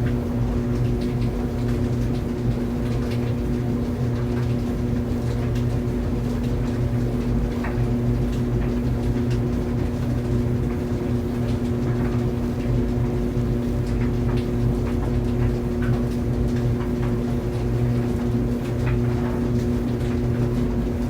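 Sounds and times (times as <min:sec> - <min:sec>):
clothes dryer running: 0:00.0 - 0:21.0.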